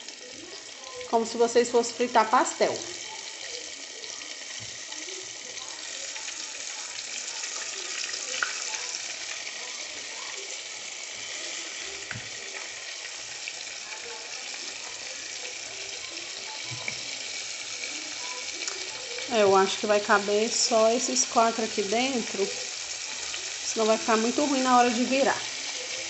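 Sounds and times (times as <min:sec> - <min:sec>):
fish deep-frying in oil: 0:00.0 - 0:26.0.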